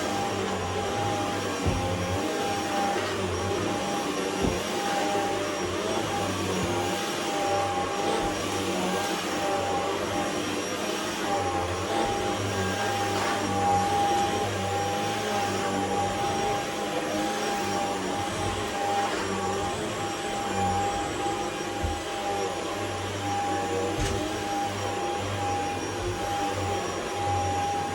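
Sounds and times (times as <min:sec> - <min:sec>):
stick vacuum running: 0:00.0 - 0:27.9.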